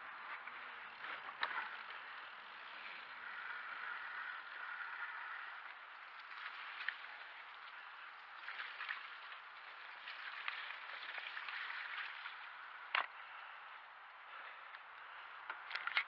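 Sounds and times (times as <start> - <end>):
bike tyres crackling on mud: 0.0 - 16.0.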